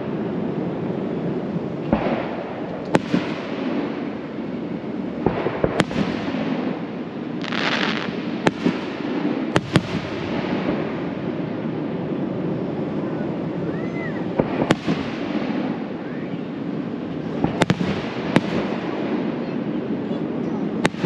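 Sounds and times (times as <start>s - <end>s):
fireworks bangs: 1.8s - 12.2s, 12.9s - 21.0s
fireworks hissing crackle: 1.8s - 21.0s.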